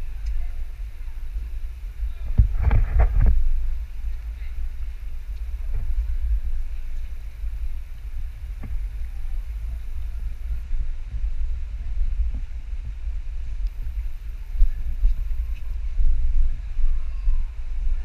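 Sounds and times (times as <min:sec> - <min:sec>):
pool hall rumble and hiss: 0:00.0 - 0:18.0.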